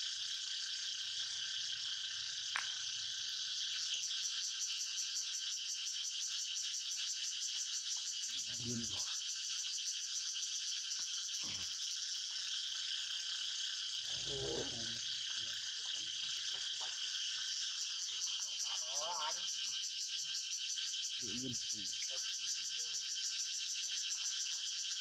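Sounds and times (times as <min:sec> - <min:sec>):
insect chorus buzzing: 0:00.0 - 0:25.0.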